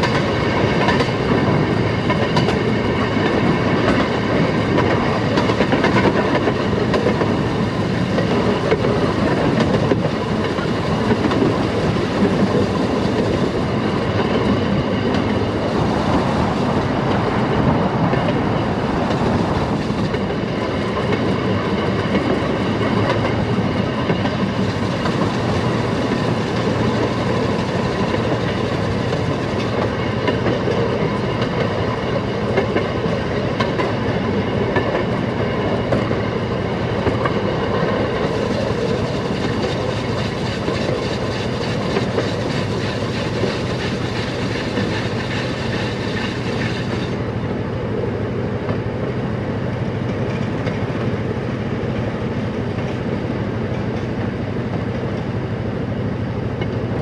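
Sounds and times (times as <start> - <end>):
wheels clicking over rail joints: 0.0 - 15.4, 17.1 - 47.3
steel wheels rolling on rails: 0.0 - 55.4.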